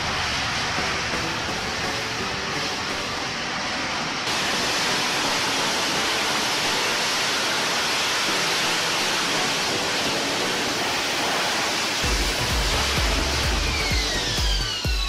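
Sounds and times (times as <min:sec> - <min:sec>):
jet engine hovering roar: 0:00.0 - 0:15.0.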